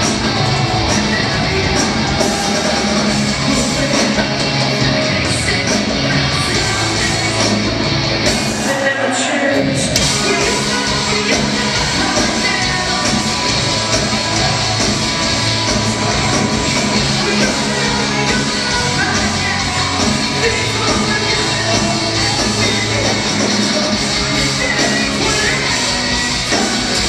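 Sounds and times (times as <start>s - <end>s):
live rock band: 0.0s - 27.0s
person singing: 0.0s - 27.0s.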